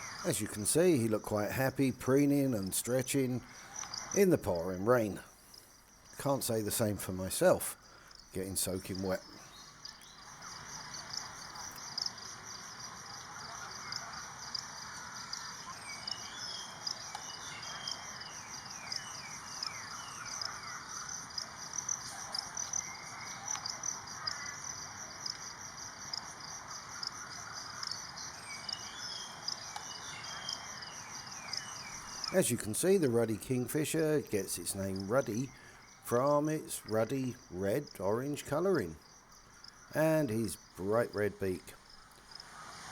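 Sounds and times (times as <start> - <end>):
insect chirring: 0.0 - 42.9
outdoor ambience hiss: 0.0 - 42.9.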